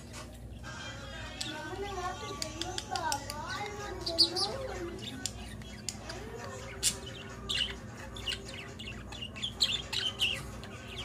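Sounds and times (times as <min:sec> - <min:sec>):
budgerigars chirping and squawking: 0:00.1 - 0:11.0.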